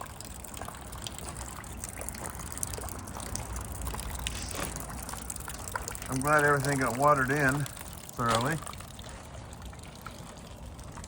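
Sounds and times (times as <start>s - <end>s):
rainwater trickling and dripping: 0.0s - 11.0s.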